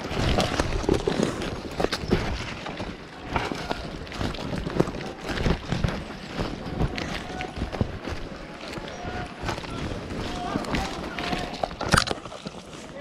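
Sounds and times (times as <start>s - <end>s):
running footsteps thudding: 0.0s - 12.2s
clothing rustling: 0.0s - 13.0s.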